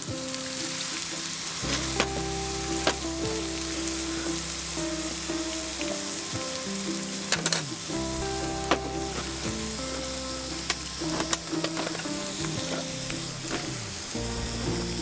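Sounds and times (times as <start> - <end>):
meat sizzling on a griddle: 0.0 - 15.0.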